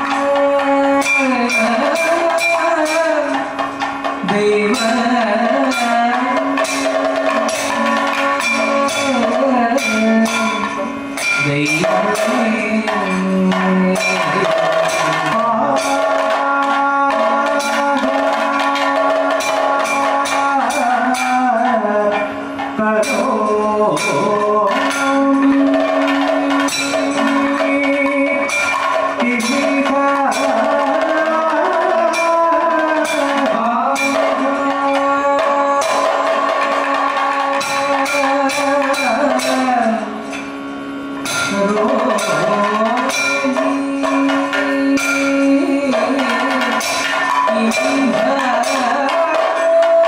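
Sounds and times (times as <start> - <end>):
person singing: 0.0 - 40.4, 41.3 - 50.0
drums beating: 0.0 - 50.0
gong and hand cymbals: 0.0 - 50.0.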